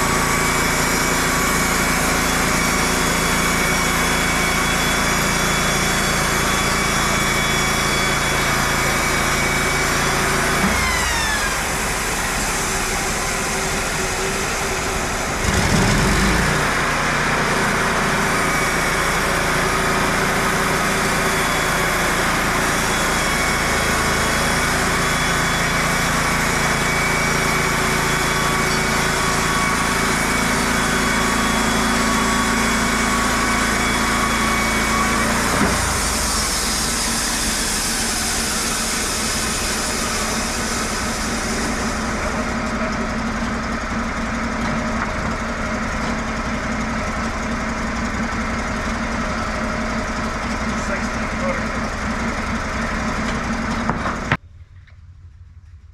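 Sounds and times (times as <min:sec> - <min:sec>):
bandsaw mill engine running: 0:00.0 - 0:55.9.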